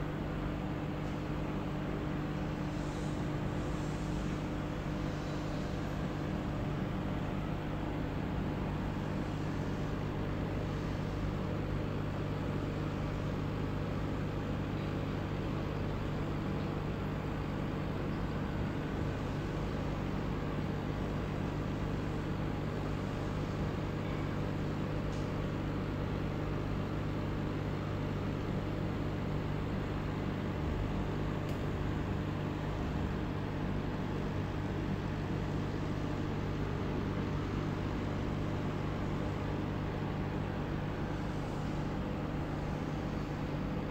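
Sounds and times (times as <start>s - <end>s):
aquarium pump humming: 0.0s - 43.9s.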